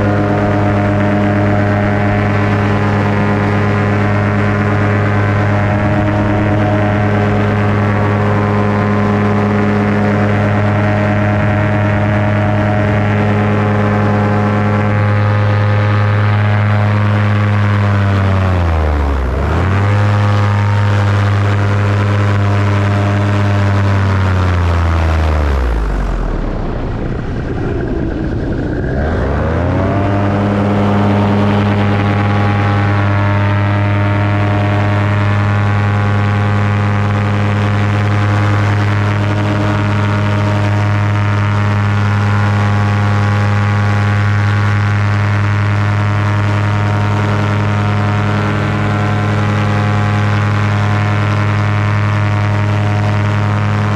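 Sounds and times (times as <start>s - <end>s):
paramotor engine and propeller: 0.0s - 53.9s.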